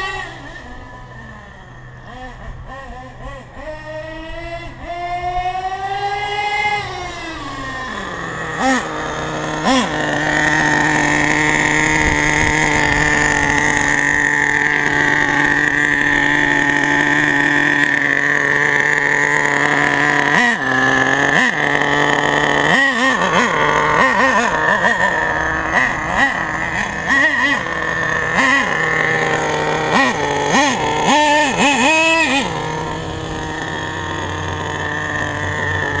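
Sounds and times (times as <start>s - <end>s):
small nitro engine buzzing: 0.0s - 36.0s.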